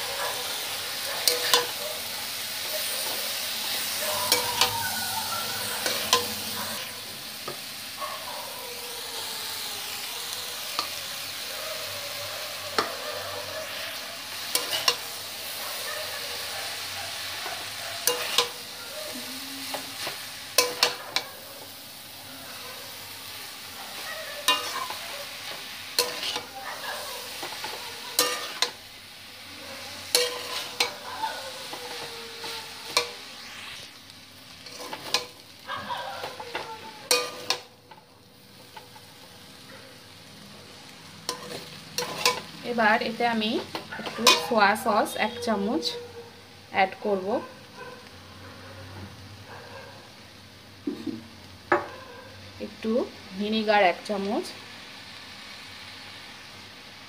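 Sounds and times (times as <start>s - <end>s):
noodles sizzling in a wok: 0.0s - 57.0s.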